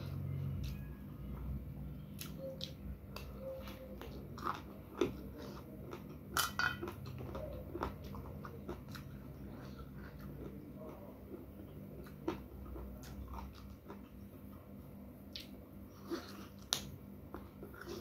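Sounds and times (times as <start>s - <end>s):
person chewing crunchy food: 2.1s - 18.0s.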